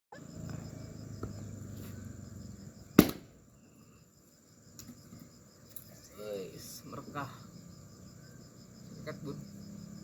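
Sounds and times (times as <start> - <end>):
insects buzzing: 0.1 - 10.0.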